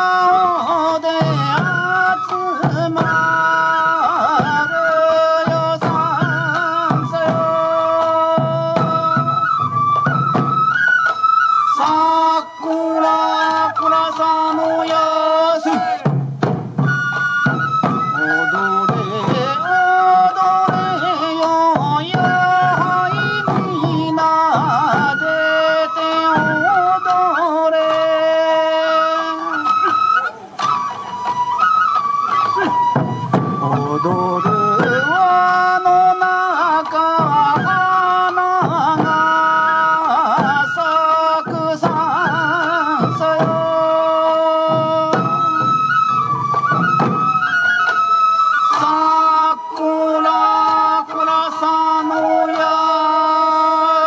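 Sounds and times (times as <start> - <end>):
bamboo flutes playing melody: 0.0 - 54.0
drum beats: 0.0 - 54.0.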